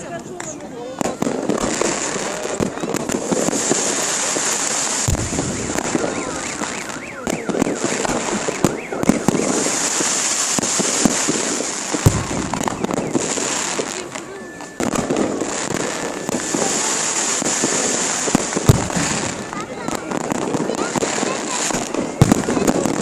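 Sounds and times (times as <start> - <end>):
fireworks crackling and popping: 0.0 - 23.0
fireworks hissing sizzle: 0.0 - 23.0
deep fireworks booms: 1.0 - 23.0.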